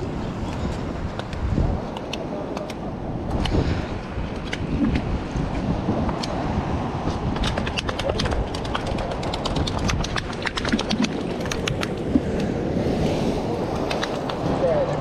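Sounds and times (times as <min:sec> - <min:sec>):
surf washing against rocks: 0:00.0 - 0:15.0
wind on microphone: 0:00.0 - 0:15.0.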